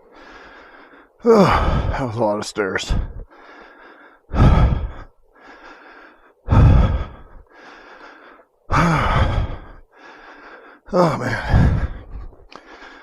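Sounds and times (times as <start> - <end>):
man breathing hard: 0.0 - 2.1, 2.8 - 13.0.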